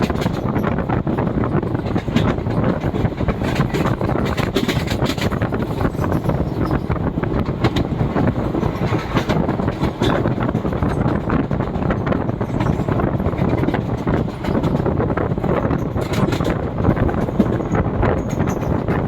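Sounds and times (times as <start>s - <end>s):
train passing at speed: 0.0s - 19.0s
wheels clattering over rails: 0.0s - 19.0s.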